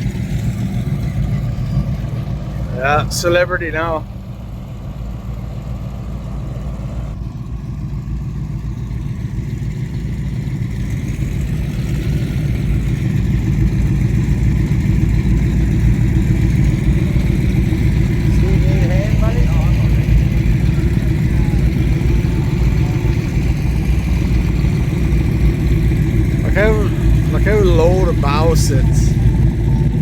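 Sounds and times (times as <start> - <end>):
powerboat engines idling: 0.0 - 30.0.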